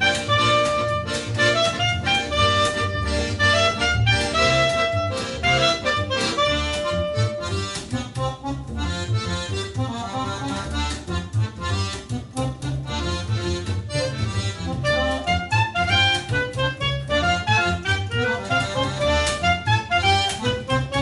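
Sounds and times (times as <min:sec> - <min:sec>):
accordion melody: 0:00.0 - 0:21.0
bass notes: 0:00.0 - 0:21.0
plucked accompaniment: 0:00.0 - 0:21.0.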